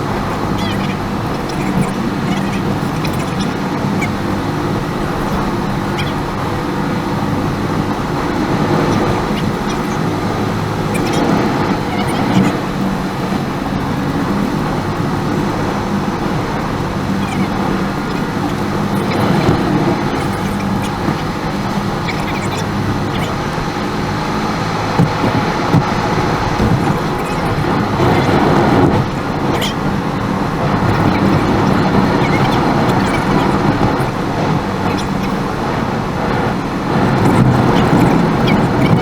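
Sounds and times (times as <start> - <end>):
car engine drone: 0.0 - 39.0
road noise: 0.0 - 39.0.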